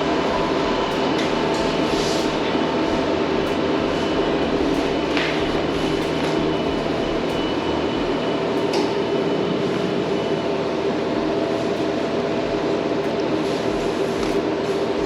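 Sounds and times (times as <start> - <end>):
mechanical hum and whir: 0.0 - 15.0.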